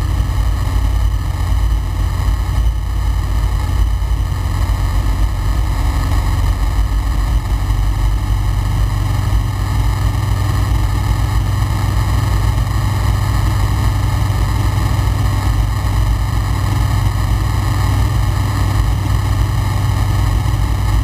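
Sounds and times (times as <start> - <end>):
aircraft engine drone: 0.0 - 21.0.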